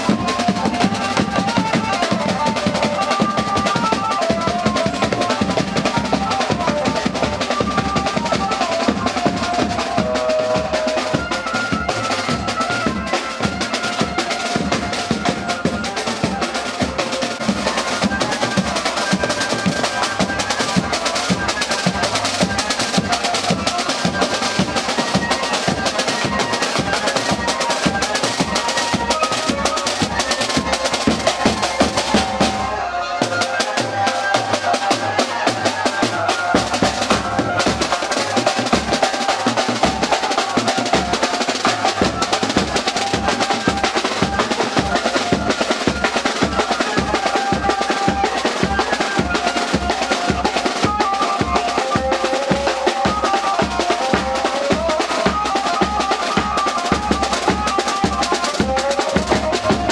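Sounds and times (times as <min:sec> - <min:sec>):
fast busy drumming: 0:00.0 - 0:59.9.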